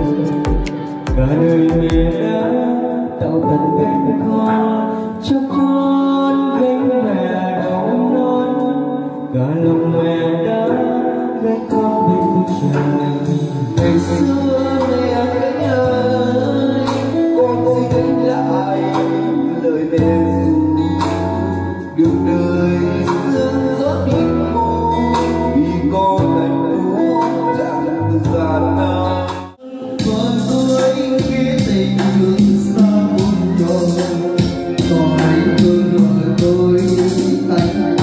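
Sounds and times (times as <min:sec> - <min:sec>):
backing music: 0:00.0 - 0:38.0
men singing karaoke: 0:00.0 - 0:38.0.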